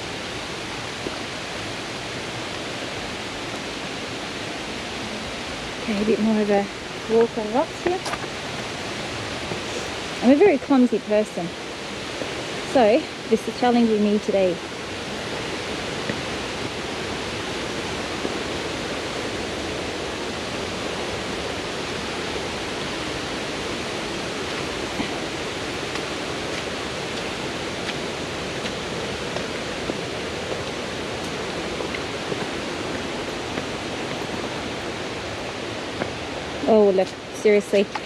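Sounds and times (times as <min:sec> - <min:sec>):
creek water tumbling over rocks: 0:00.3 - 0:38.0.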